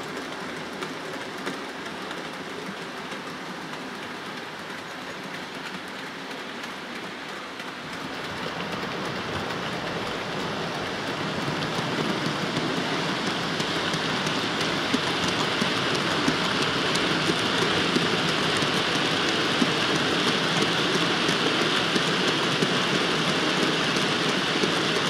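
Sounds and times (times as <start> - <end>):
model train wheels rolling on rails: 0.0 - 25.0.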